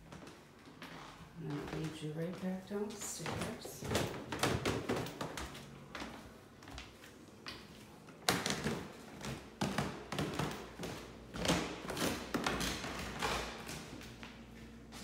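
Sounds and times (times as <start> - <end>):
footsteps down indoor stairs: 0.0 - 15.0.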